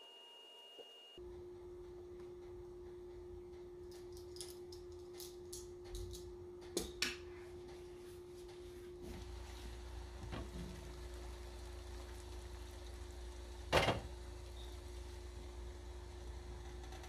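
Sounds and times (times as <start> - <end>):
steady low hum: 1.1 - 17.0.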